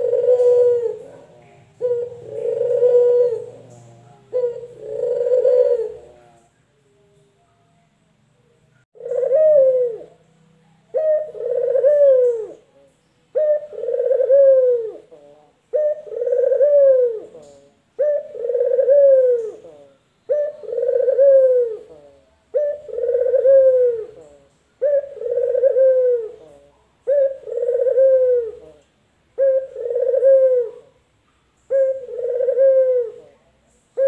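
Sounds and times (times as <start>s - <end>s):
doves cooing: 0.0s - 6.6s, 9.0s - 10.2s, 10.9s - 31.0s, 31.6s - 34.0s.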